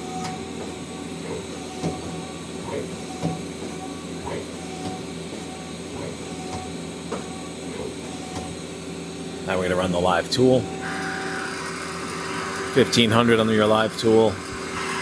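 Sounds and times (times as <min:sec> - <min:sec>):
machine hum with steady tones: 0:00.0 - 0:15.0.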